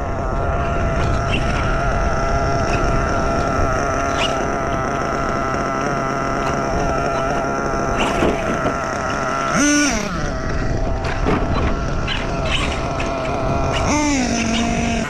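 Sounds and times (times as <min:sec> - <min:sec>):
engine revving: 0:00.0 - 0:15.0
model engine running: 0:00.0 - 0:15.0.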